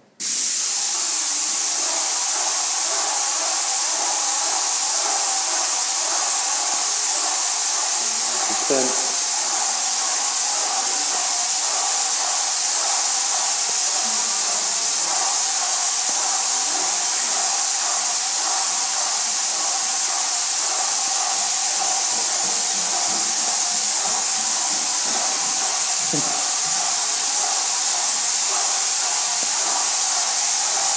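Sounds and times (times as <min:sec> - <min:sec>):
paint sprayer hissing: 0:00.0 - 0:30.9.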